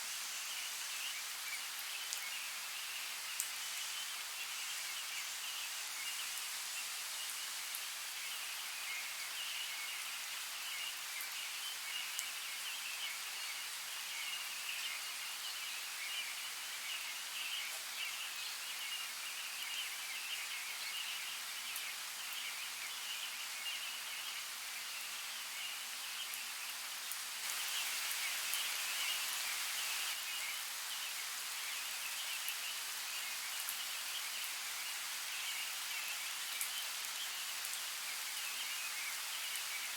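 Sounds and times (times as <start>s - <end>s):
steady water-like hiss: 0.0s - 39.9s.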